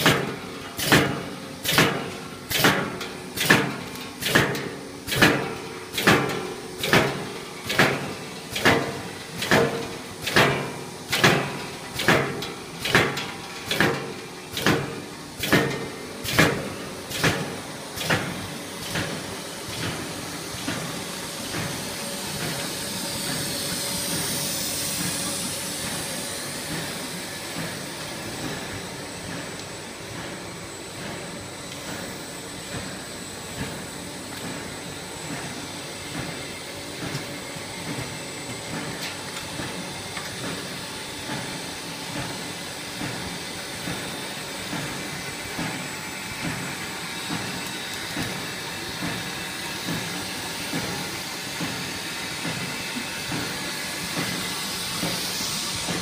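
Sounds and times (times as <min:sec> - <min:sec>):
hum and hiss of running line: 0:00.0 - 0:56.0.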